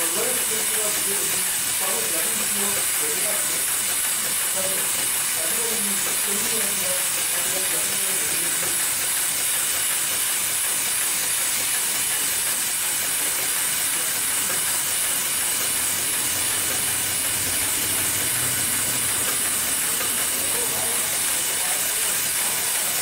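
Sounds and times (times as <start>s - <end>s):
sewing machine running: 0.0s - 23.0s.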